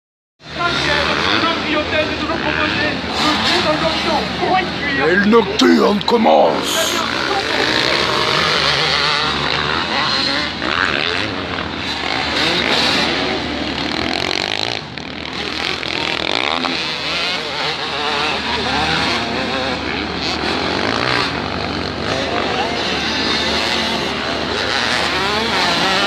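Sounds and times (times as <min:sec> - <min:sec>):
motocross bike engines revving: 0:00.5 - 0:04.8, 0:08.1 - 0:26.0.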